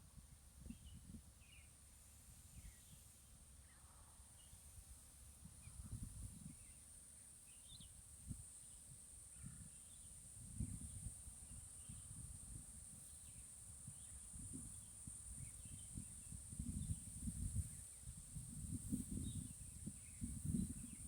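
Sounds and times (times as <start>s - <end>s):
wind rumble on microphone: 0.0s - 1.6s, 4.7s - 6.9s, 7.6s - 21.0s.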